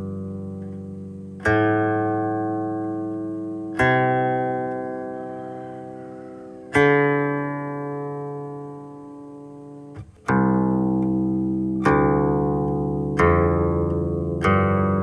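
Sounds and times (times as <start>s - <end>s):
plucked zither notes: 0.0s - 15.0s.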